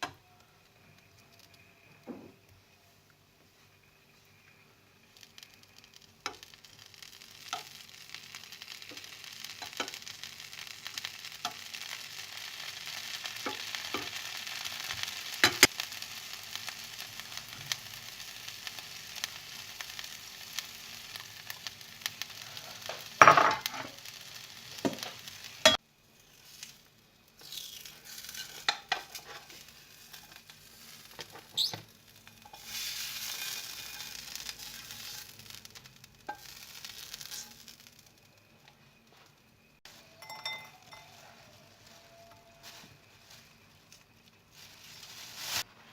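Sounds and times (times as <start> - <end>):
food sizzling in a frying pan: 3.6 - 45.9.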